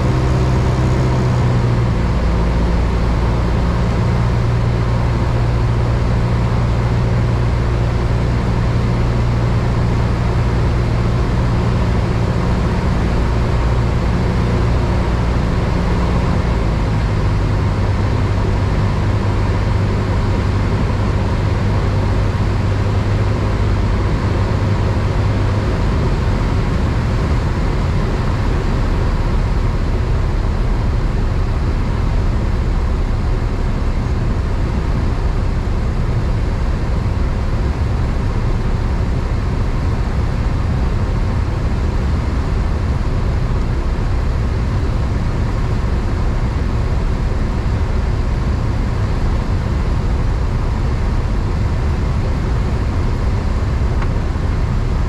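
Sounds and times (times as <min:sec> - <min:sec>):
light aircraft engine drone: 0:00.0 - 0:55.0
low engine hum: 0:00.0 - 0:55.0.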